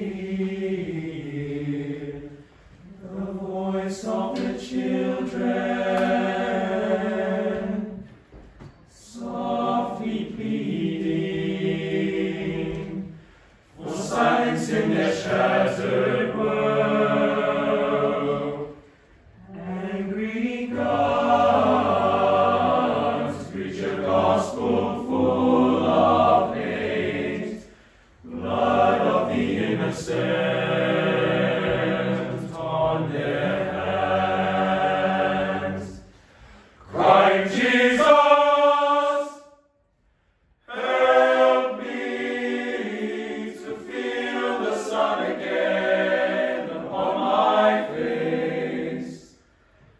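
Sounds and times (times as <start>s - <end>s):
boys' choir singing a cappella: 0.0s - 39.6s, 40.6s - 49.9s.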